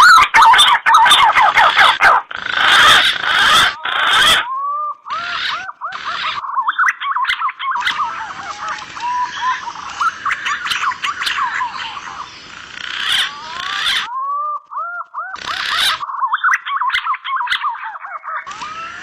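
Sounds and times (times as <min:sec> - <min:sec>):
background hiss: 0:00.0 - 0:17.2
pigeons calling with whistled notes: 0:00.0 - 0:19.0.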